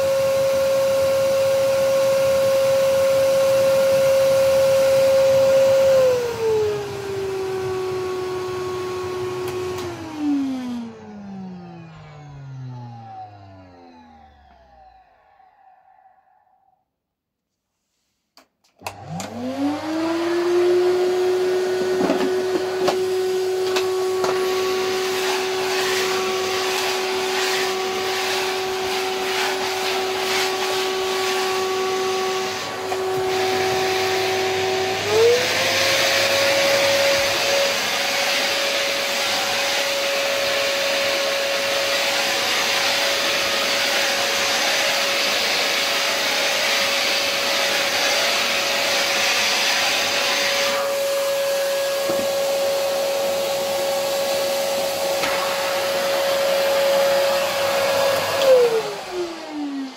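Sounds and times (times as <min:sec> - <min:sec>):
vacuum cleaner motor whining: 0:00.0 - 0:16.7, 0:18.8 - 0:59.9.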